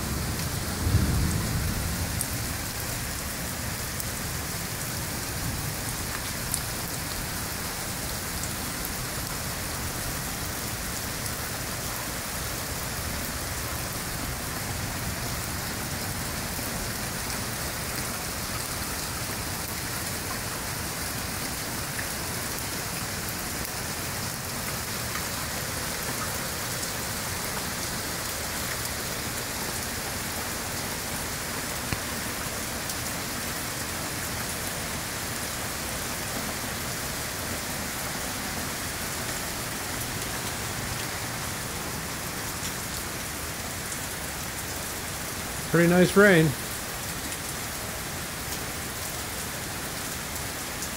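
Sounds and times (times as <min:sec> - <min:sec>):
heavy rain on leaves: 0:00.0 - 0:50.9.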